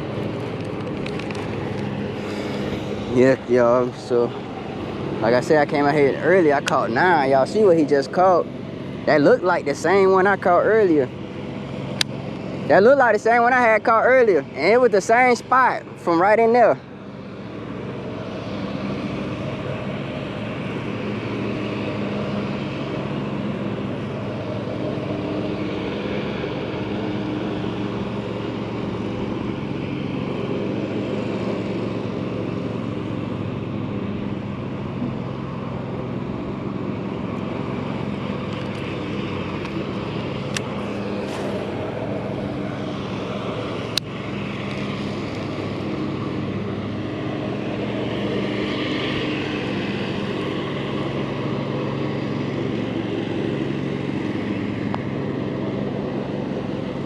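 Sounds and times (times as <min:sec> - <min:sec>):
engine-like drone: 0:00.0 - 0:57.0.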